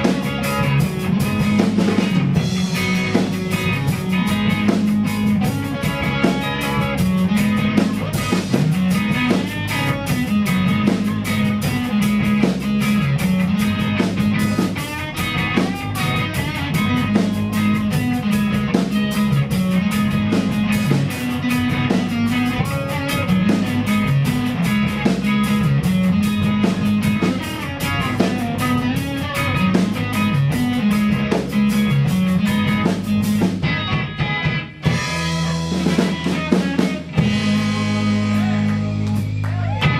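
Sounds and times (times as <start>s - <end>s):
bass: 0.0s - 39.9s
drum kit and cymbals: 0.0s - 39.9s
guitar: 0.0s - 39.9s.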